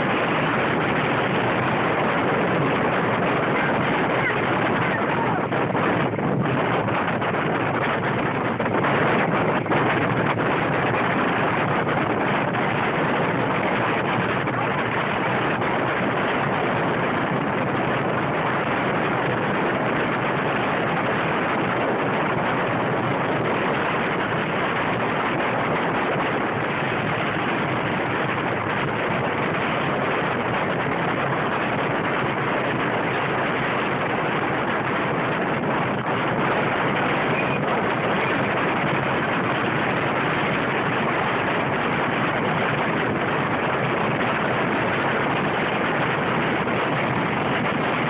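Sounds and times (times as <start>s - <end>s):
wind on microphone: 0.0s - 48.0s.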